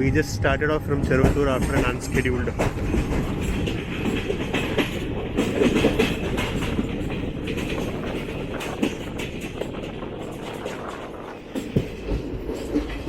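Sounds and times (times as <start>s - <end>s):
train running gear rumble: 0.0s - 13.0s
train wheels clicking and knocking: 1.0s - 13.0s.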